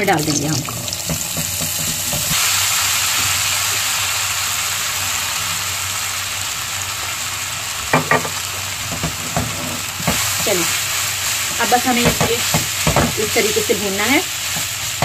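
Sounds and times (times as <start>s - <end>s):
food sizzling in ghee: 0.0s - 15.0s.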